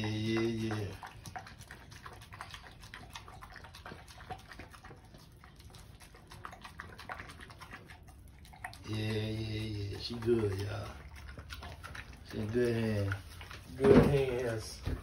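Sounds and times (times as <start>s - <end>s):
dog chewing and smacking: 0.0s - 15.0s.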